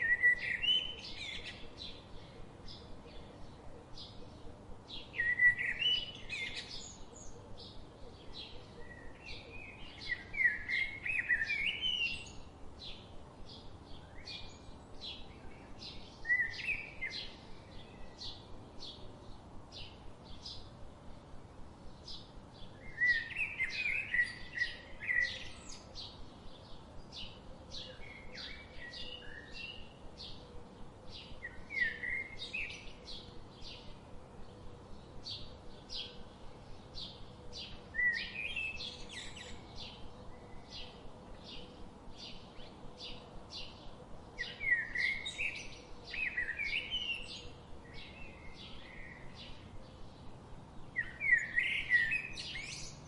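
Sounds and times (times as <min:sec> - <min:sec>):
songbirds chipping: 0:00.0 - 0:53.0
warbled bird song: 0:00.0 - 0:53.0.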